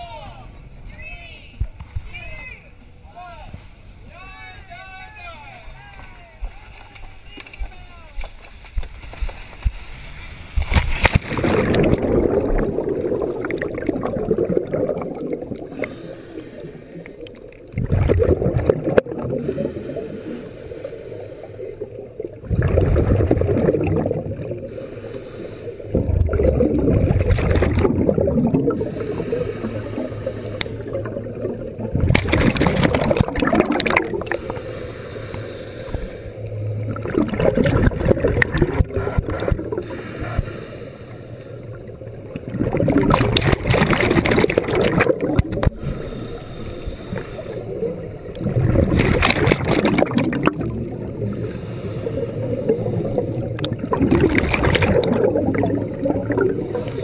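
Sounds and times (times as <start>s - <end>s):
underwater exhaled bubbles: 11.1s - 57.0s.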